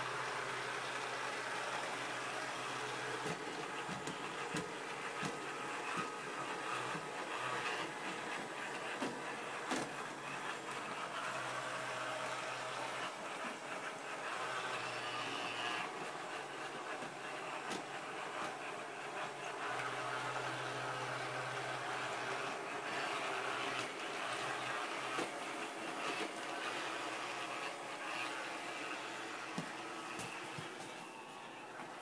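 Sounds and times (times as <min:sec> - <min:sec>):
robot vacuum cleaner motor whir: 0:00.1 - 0:32.0.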